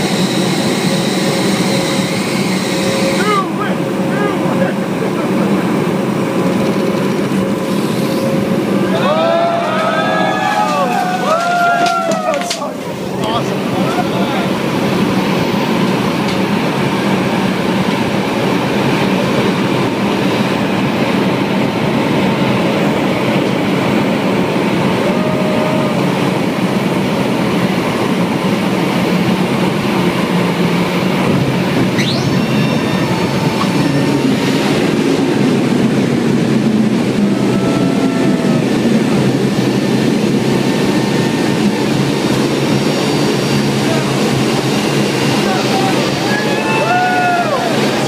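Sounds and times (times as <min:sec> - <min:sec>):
turboprop engines droning: 0:00.0 - 0:48.0.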